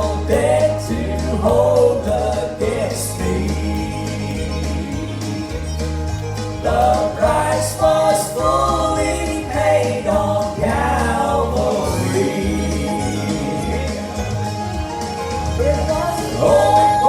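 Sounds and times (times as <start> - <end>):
gospel singing: 0.0 - 17.0
instrumental accompaniment with bass: 0.0 - 17.0.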